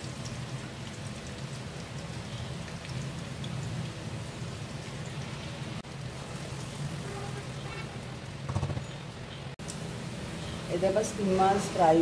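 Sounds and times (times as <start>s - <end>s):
onions sizzling in hot oil: 0.0s - 8.5s, 9.6s - 12.0s.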